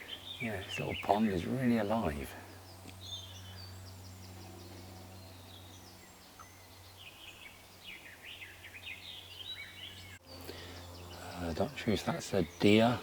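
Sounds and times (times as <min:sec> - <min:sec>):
low steady hum: 0:00.0 - 0:13.0
songbirds chirping and trilling: 0:00.0 - 0:13.0.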